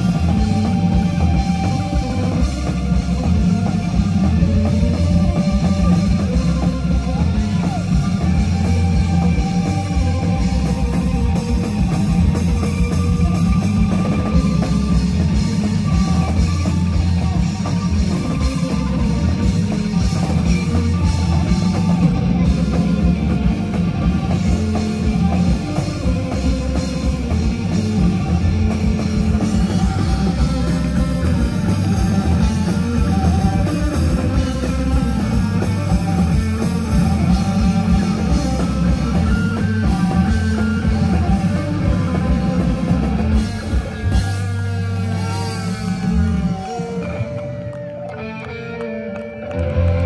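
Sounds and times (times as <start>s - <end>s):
rock band playing loudly: 0.0s - 50.0s.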